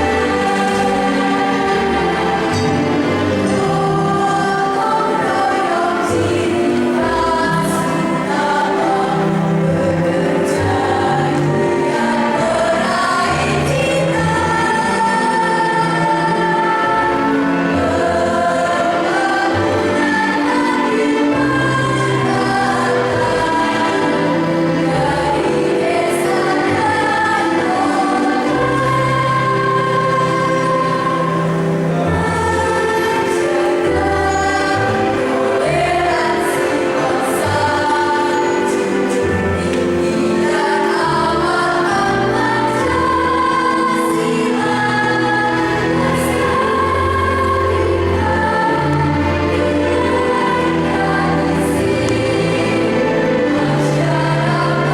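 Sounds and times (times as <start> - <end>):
choir singing: 0.0 - 54.9.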